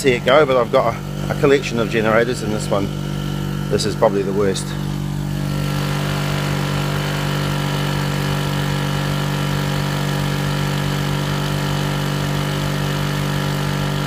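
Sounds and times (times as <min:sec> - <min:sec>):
two-stroke generator running: 0:00.0 - 0:14.0.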